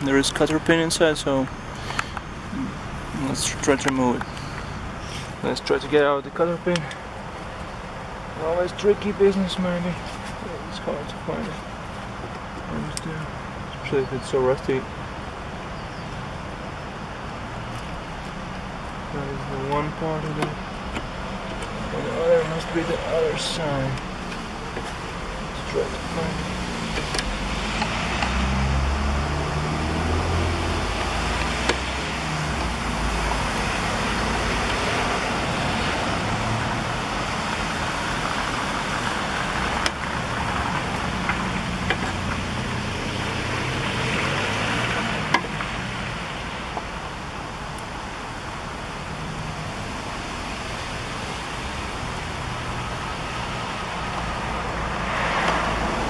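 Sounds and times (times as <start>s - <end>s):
road traffic: 0.0s - 56.0s.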